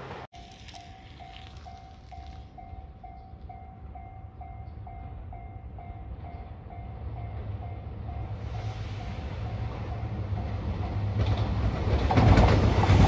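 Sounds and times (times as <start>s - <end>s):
low train rumble: 0.0s - 13.0s.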